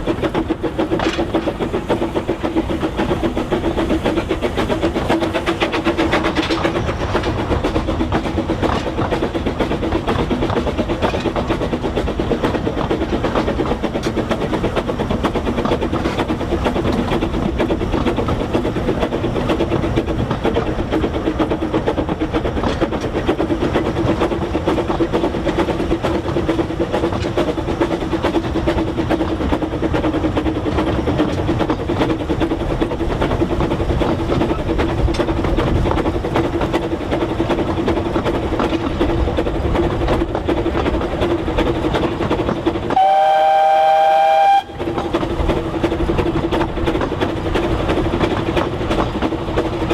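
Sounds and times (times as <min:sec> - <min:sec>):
steam train wheels on rails: 0:00.0 - 0:49.9.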